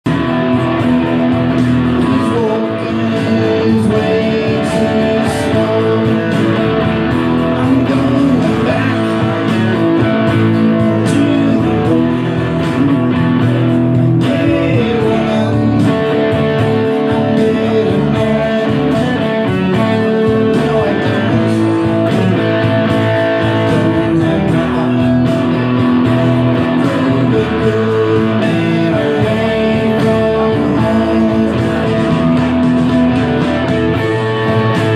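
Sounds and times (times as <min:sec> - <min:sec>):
live band music: 0:00.0 - 0:34.9
person singing: 0:00.0 - 0:34.9
strummed guitar: 0:00.0 - 0:34.9.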